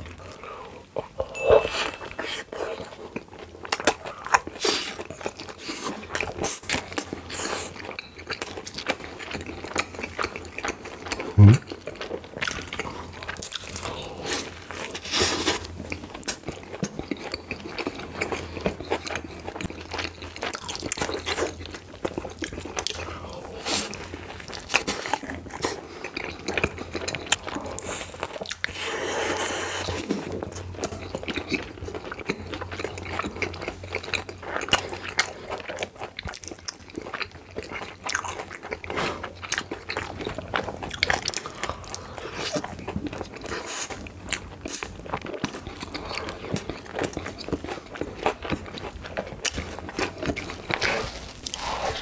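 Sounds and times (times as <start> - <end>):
wet chewing: 0.1 - 52.0.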